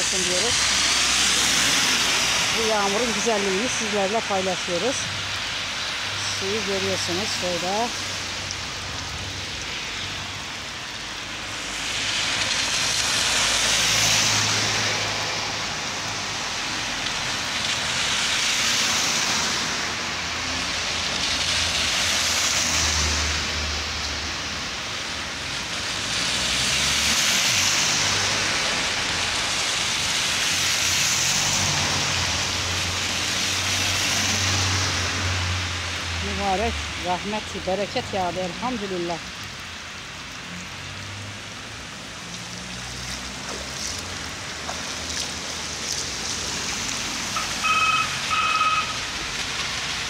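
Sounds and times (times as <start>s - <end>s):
cars swishing past on wet road: 0.0s - 50.0s
heavy rain on asphalt: 0.0s - 50.0s.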